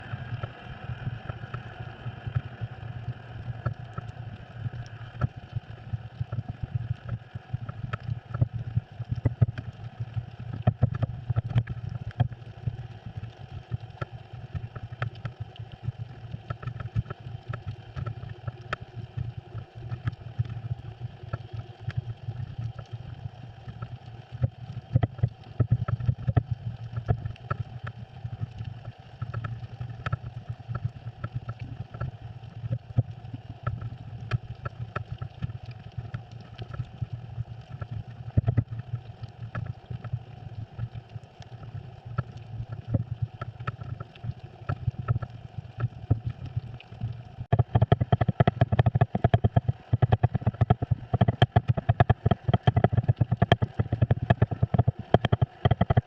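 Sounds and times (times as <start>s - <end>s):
underwater clicks and crackles: 0.0s - 56.0s
underwater low hum: 0.0s - 56.0s.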